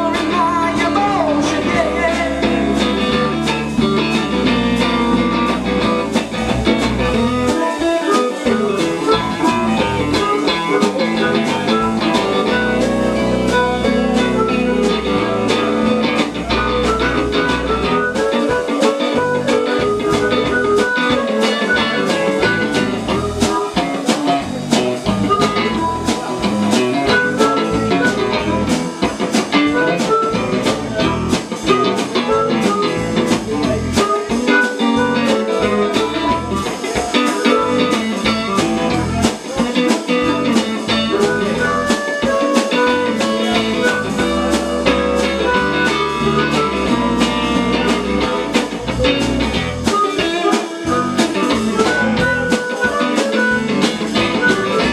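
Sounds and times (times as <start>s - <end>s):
drum kit beat: 0.0s - 54.9s
electric guitar lines: 0.0s - 54.9s.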